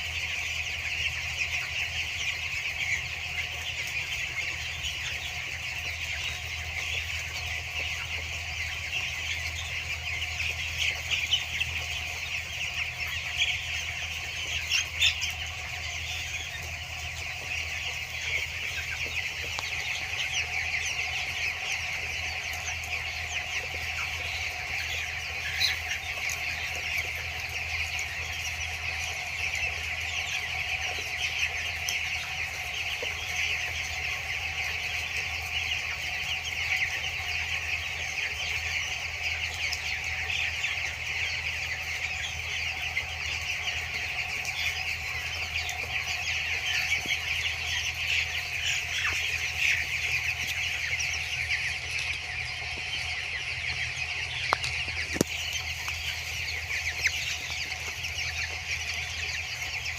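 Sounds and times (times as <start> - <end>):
chicks peeping and chirping: 0.0 - 59.9.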